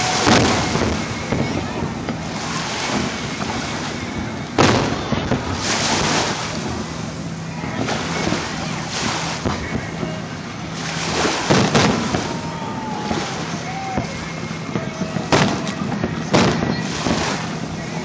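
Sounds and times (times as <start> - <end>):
fireworks exploding: 0.0 - 18.0
steady low hum: 0.0 - 18.0.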